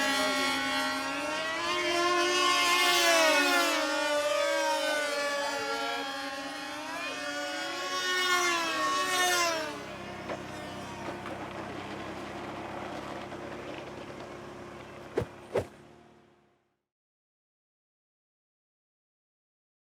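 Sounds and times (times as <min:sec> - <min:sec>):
model airplane engines screaming: 0:00.0 - 0:16.3.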